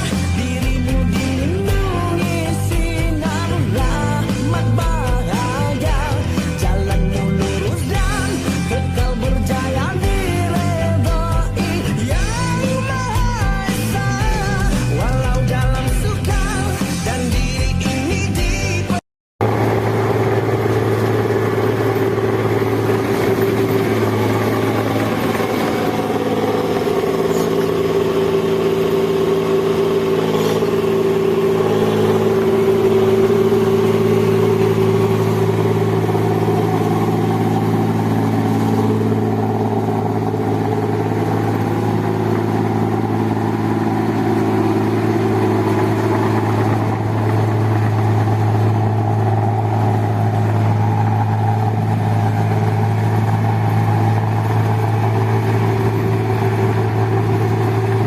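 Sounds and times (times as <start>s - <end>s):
machine engine running: 0.0s - 58.0s.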